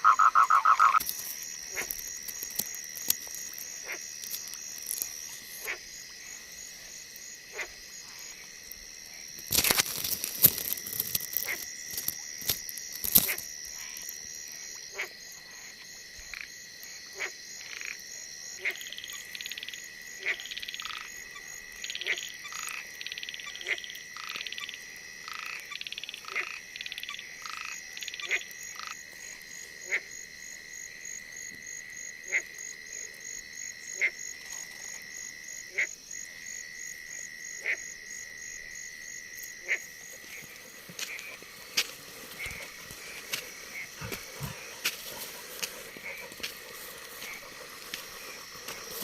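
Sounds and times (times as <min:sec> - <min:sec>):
frogs croaking: 0:00.0 - 0:49.0
high insect trill: 0:00.0 - 0:49.0.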